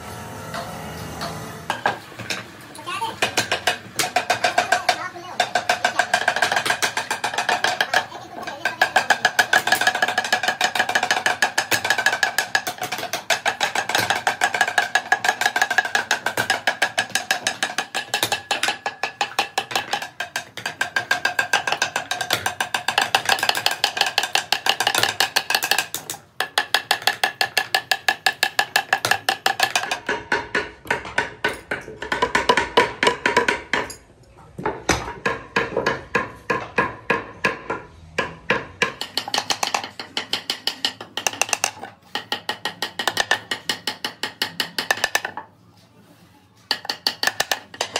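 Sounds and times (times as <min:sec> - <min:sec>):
small hammers tapping metal wire: 0:00.6 - 0:45.4, 0:46.6 - 0:47.9.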